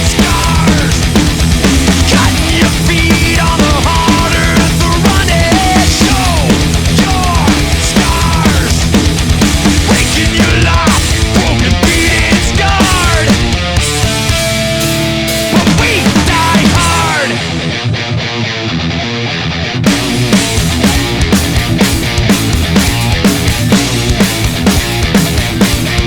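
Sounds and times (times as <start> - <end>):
electric guitar bending notes: 0.0 - 26.0
rock drums: 0.0 - 26.0.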